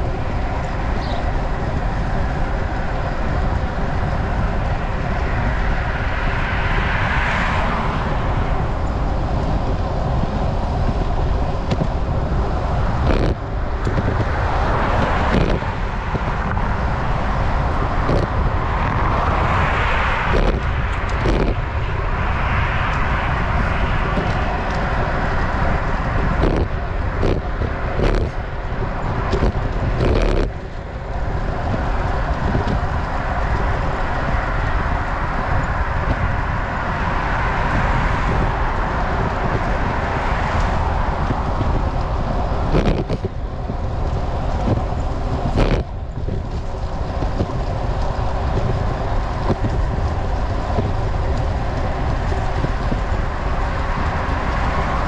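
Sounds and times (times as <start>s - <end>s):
cars passing: 0.0s - 55.0s
road noise: 0.0s - 55.0s
wind rushing over microphone: 0.0s - 55.0s.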